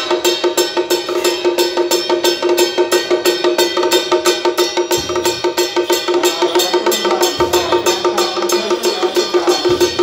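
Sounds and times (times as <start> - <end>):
quick metallic percussion strikes: 0.0 - 10.0
steady ringing tone: 0.0 - 10.0.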